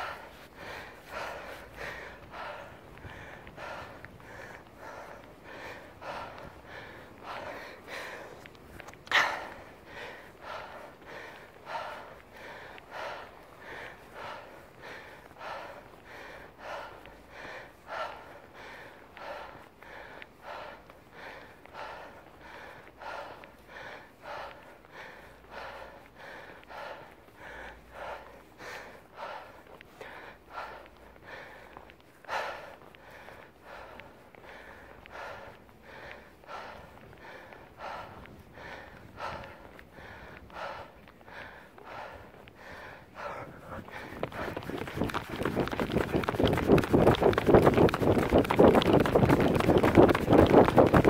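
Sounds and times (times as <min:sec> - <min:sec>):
person breathing hard: 0:00.0 - 0:51.0.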